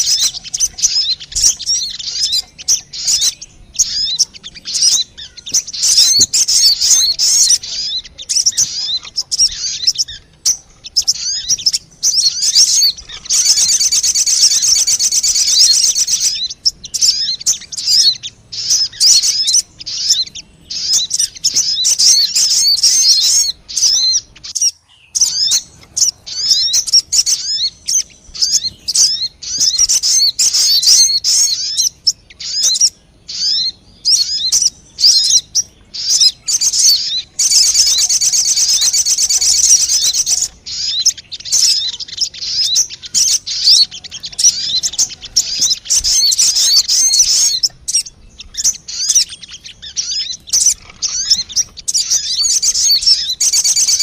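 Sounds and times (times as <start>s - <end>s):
squeaky bird chirps and trills: 0.0s - 54.0s.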